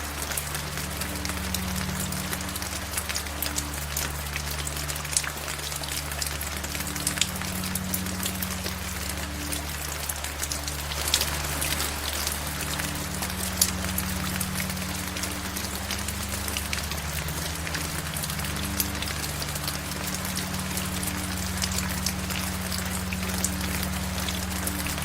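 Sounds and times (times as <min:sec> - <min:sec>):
low steady drone: 0:00.0 - 0:25.0
rain falling: 0:00.0 - 0:25.0
raindrops ticking on a surface: 0:00.0 - 0:25.0.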